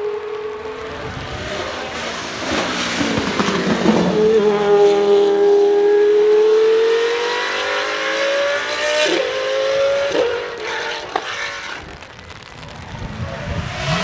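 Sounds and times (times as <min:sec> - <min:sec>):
race car passing and accelerating: 0:00.0 - 0:11.8, 0:13.2 - 0:14.0.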